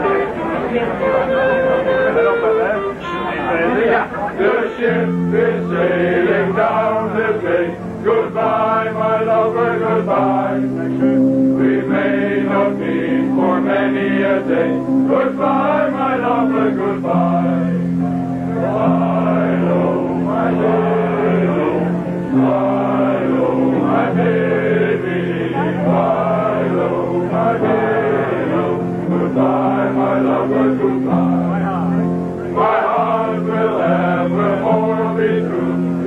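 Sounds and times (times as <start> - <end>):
men's choir singing: 0.0 - 36.0.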